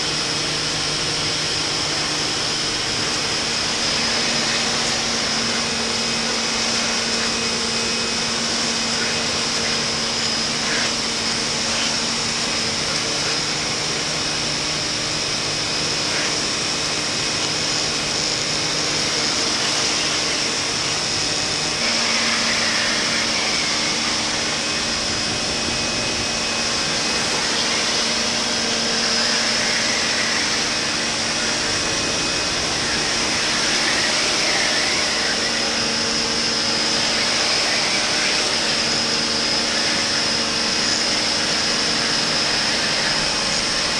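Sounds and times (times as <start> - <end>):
pressure washer motor hum: 0.0 - 43.9
water jet hissing: 0.0 - 43.9.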